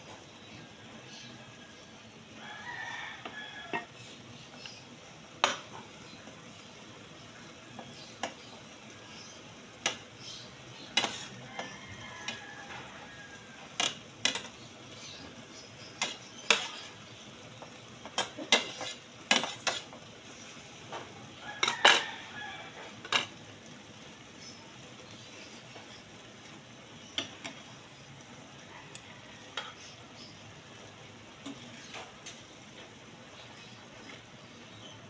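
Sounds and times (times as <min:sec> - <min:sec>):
pan sizzling: 0:00.0 - 0:35.0.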